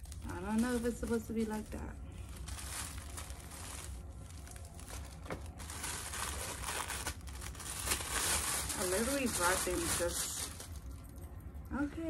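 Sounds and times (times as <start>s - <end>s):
plastic packaging crinkling: 0.0s - 11.3s
steady low hum: 0.0s - 12.0s.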